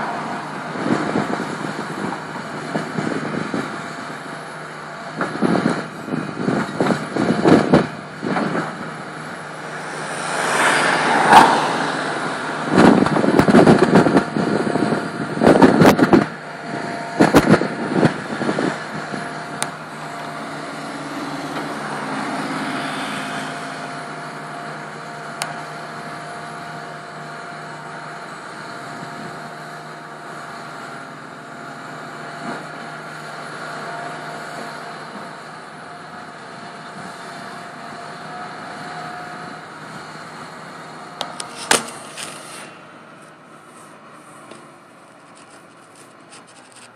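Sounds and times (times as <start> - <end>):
excavator engine drone: 0.0 - 46.9.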